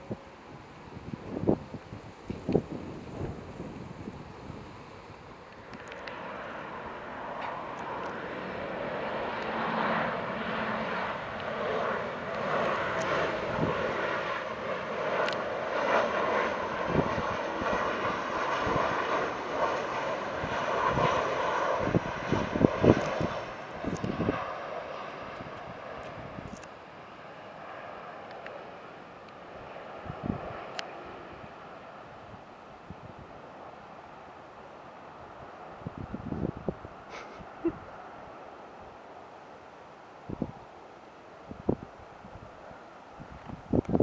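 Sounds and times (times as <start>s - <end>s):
jet engines rushing whine: 0.0s - 44.0s.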